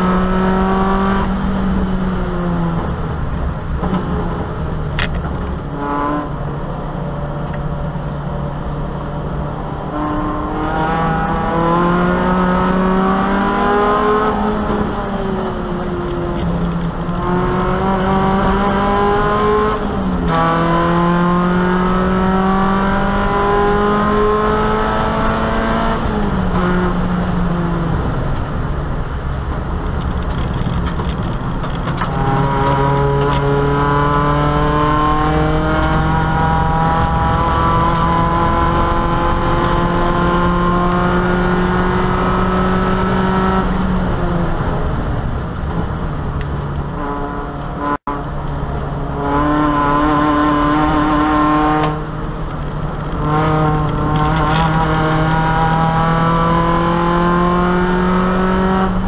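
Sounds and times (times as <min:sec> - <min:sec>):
race car engine under full load: 0:00.0 - 0:59.0.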